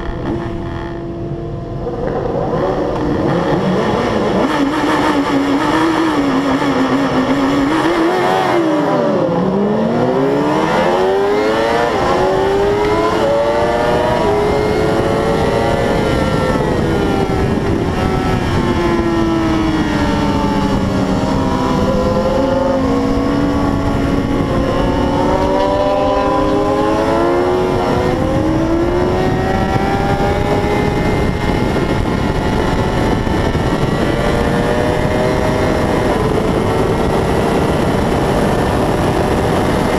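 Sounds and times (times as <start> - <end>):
racing motorcycle engine revving: 0.0 - 39.9
rush of wind: 0.0 - 39.9.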